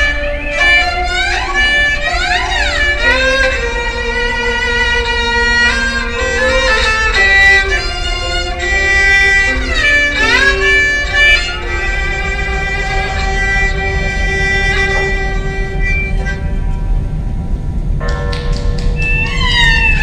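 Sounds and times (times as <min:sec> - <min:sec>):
bowed string instrument melody: 0:00.0 - 0:20.0
low steady rumble: 0:00.0 - 0:20.0.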